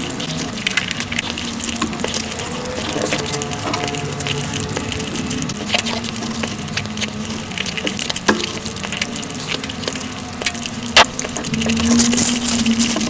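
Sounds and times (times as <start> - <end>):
wet chewing and smacking: 0.0 - 13.0.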